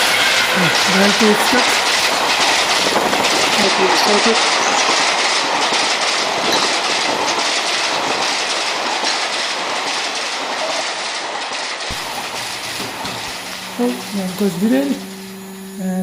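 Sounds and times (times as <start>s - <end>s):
model train wheels clattering on rails: 0.0s - 15.8s.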